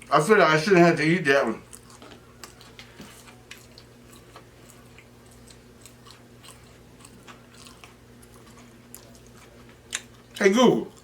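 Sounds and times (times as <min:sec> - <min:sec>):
low steady hum: 0:00.0 - 0:11.0
close-miked chewing: 0:01.5 - 0:11.0.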